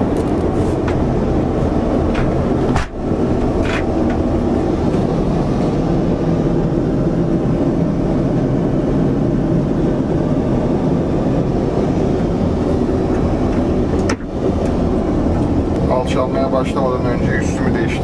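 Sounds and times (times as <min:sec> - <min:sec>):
jet engine and airflow rush: 0:00.0 - 0:18.0.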